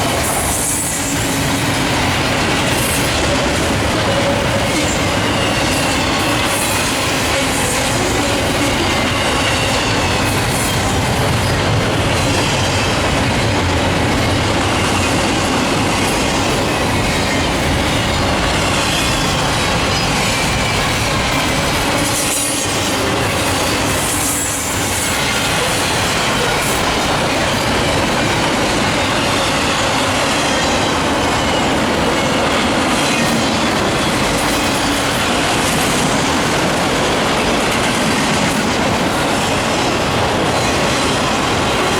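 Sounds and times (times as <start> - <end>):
freight train wheels clattering: 0.0 - 41.9.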